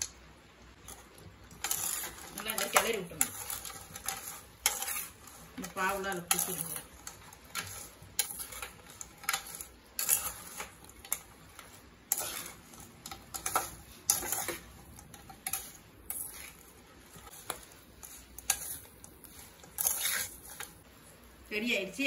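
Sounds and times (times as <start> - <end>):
spatula scraping metal pan: 0.8 - 20.8.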